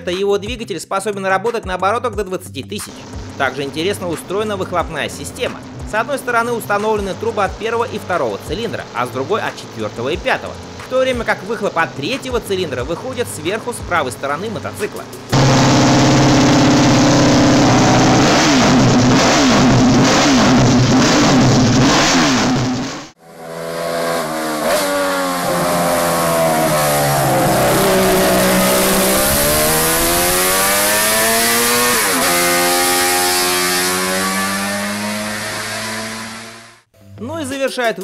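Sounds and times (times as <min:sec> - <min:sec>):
racing motorcycle engine revving: 0:02.8 - 0:36.9.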